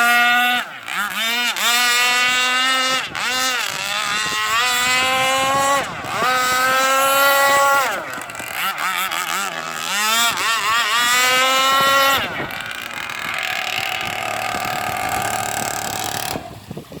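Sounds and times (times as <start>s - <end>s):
faint steady engine note: 0.0s - 17.0s
two-stroke engine revving: 0.0s - 17.0s.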